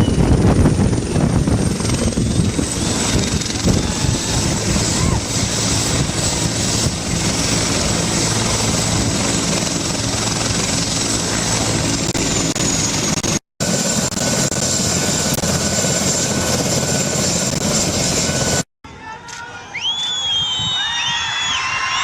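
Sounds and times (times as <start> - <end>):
high turbine whine: 0.0 - 18.6
helicopter rotor and engine din: 0.0 - 18.7.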